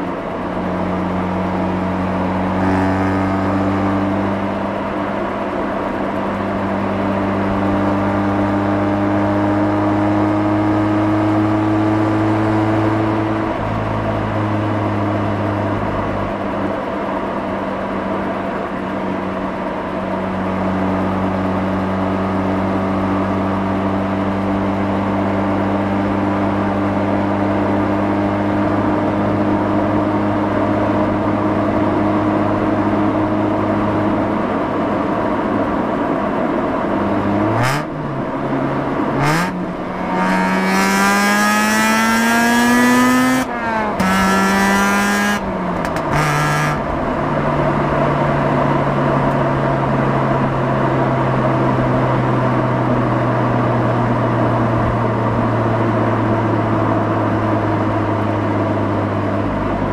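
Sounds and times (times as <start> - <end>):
rotary engine and exhaust: 0.0 - 59.9.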